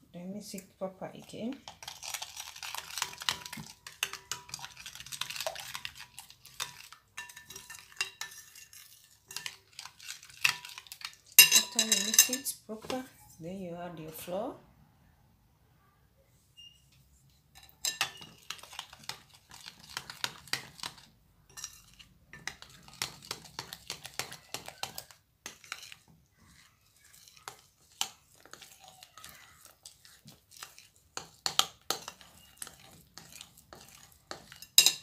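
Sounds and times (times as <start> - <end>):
metal spoon scraping bowl: 1.2 - 13.1, 17.5 - 35.0.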